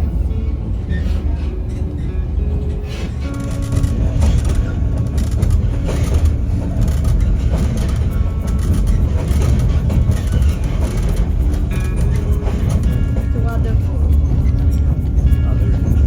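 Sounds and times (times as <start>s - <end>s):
train rumble: 0.0s - 16.0s
wheels clattering: 0.0s - 16.0s.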